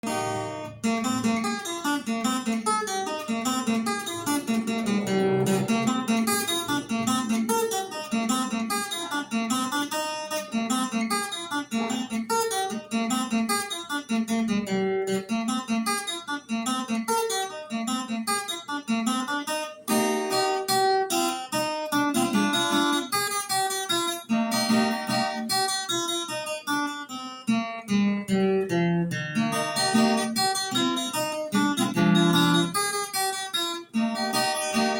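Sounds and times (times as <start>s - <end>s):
solo plucked guitar melody: 0.0s - 34.9s.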